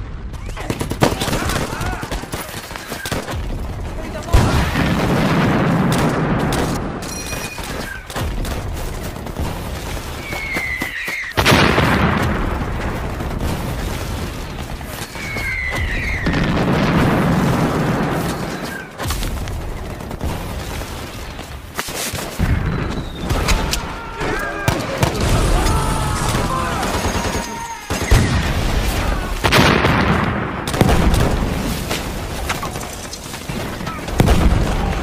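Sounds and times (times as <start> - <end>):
explosions: 0.0 - 35.0
rifle and machine-gun fire: 0.0 - 35.0.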